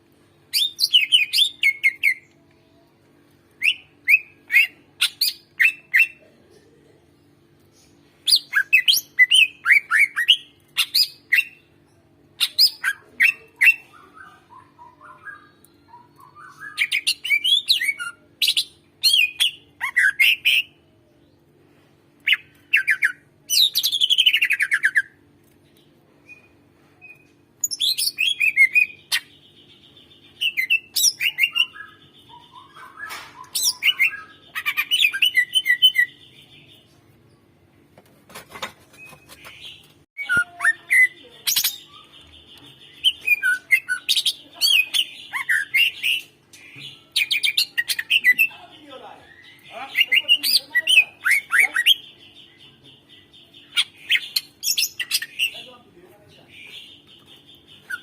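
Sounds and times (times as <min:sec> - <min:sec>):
bird singing chirps and trills: 0:07.2 - 0:21.1, 0:22.2 - 0:37.5, 0:38.9 - 0:58.0.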